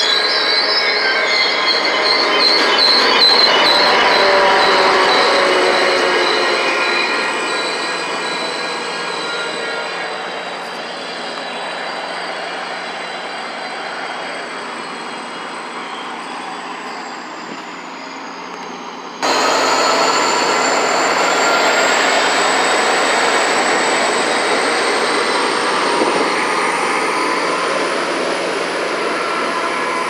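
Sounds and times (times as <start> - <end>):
high whine of train: 0.0 - 30.0
train rumbling on track: 0.0 - 30.0.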